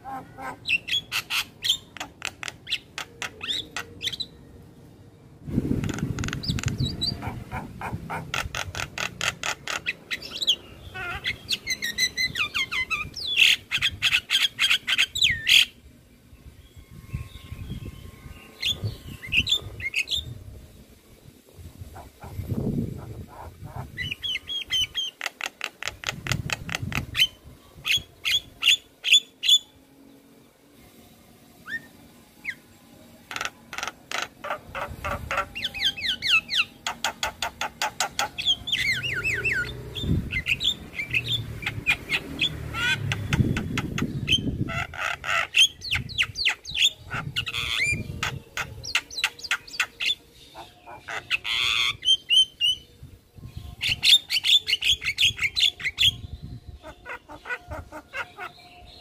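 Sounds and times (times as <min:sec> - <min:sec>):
myna bird song: 0:00.0 - 0:04.8, 0:05.5 - 0:59.0.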